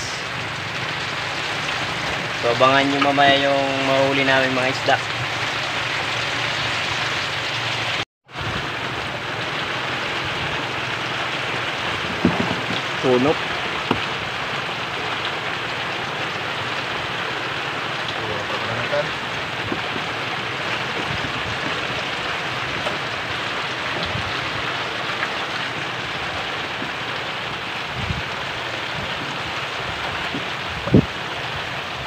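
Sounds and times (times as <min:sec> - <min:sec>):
rain hissing: 0:00.0 - 0:32.0.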